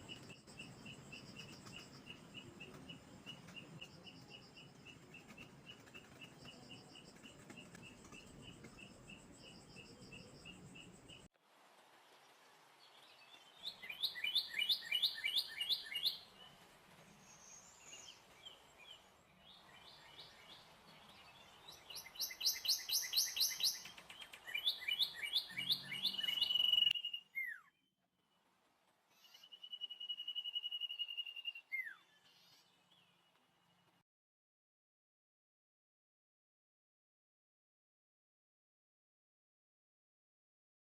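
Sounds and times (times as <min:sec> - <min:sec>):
songbird chirping: 0:00.0 - 0:11.3, 0:11.9 - 0:34.0.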